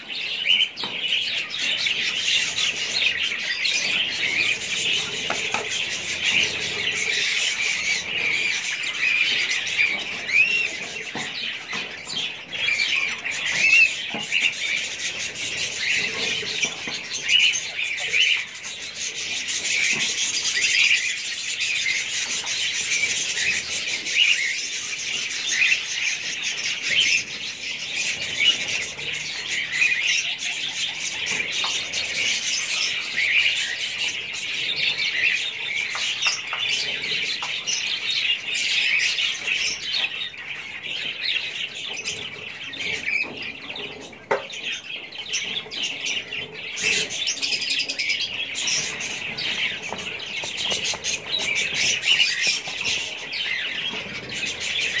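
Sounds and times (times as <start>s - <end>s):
caged birds chirping: 0.0s - 55.0s.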